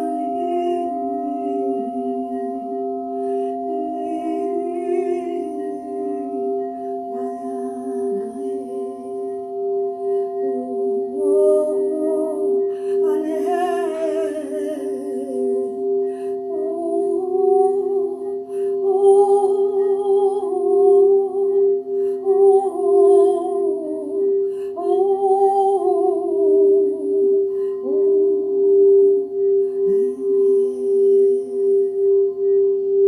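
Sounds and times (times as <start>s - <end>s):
person singing wordless melody: 0.0s - 33.0s
singing bowls ringing: 0.0s - 33.0s.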